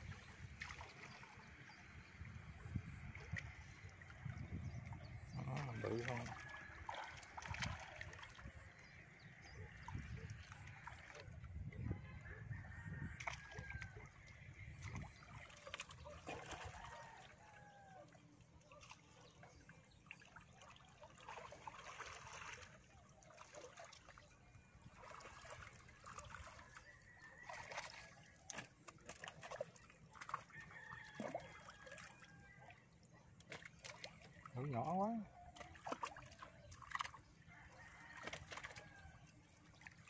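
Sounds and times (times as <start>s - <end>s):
pond water sloshing: 0.0s - 40.0s.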